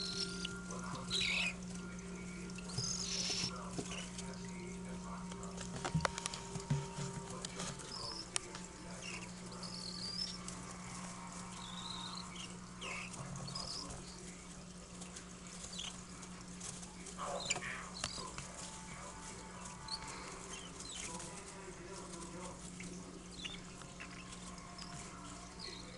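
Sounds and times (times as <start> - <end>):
baby birds chirping: 0.0 - 25.9
steady low hum: 0.0 - 25.9
light scratching and shuffling: 2.4 - 25.9.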